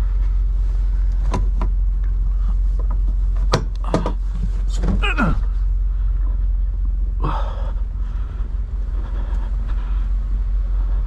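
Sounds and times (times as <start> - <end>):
truck idling: 0.0 - 11.0.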